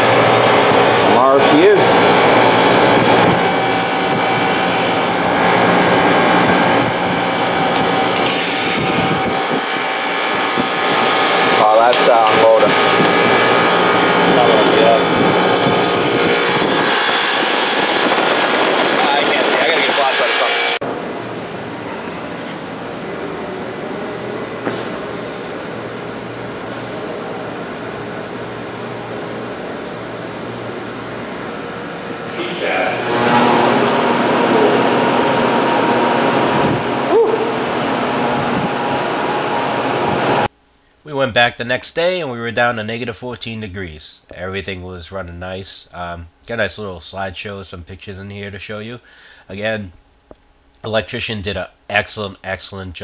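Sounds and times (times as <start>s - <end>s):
evaporator fans whirring: 0.0s - 53.0s
refrigeration unit humming: 0.0s - 53.0s.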